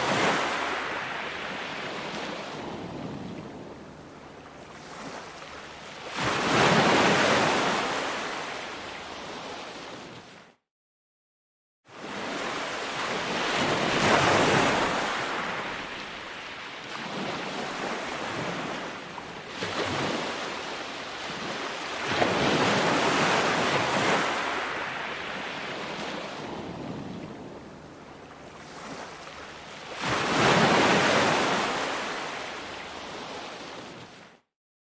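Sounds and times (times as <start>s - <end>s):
ocean waves breaking on beach: 0.0s - 10.6s, 11.9s - 34.4s.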